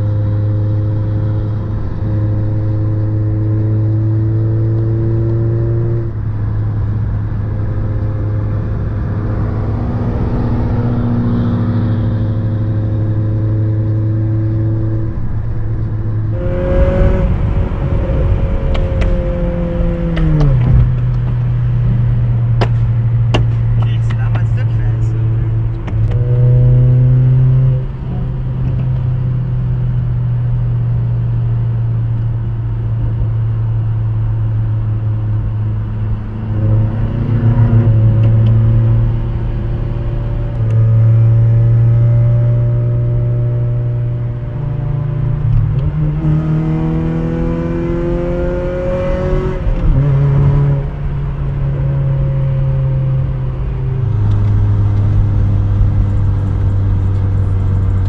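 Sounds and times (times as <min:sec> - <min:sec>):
car engine droning in cabin: 0:00.0 - 0:58.0.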